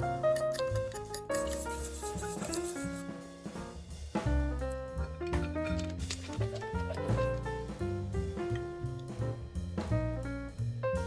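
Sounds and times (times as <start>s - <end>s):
guitar music with bass and drums: 0.0s - 9.4s.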